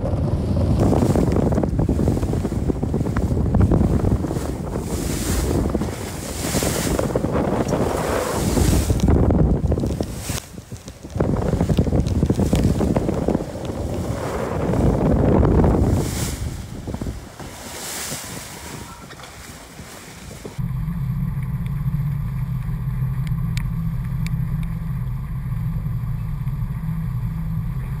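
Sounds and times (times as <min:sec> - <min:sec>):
boat engine humming: 0:00.0 - 0:28.0
open sea water: 0:00.0 - 0:28.0
wind buffeting microphone: 0:00.0 - 0:28.0.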